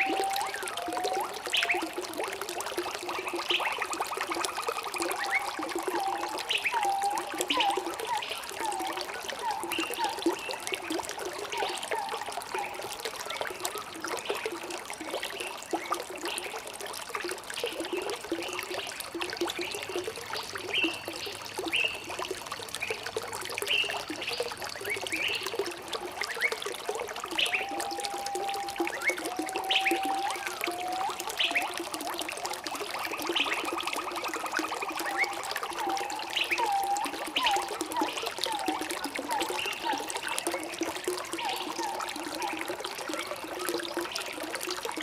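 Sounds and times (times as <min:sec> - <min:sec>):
stream water trickling: 0:00.0 - 0:45.0.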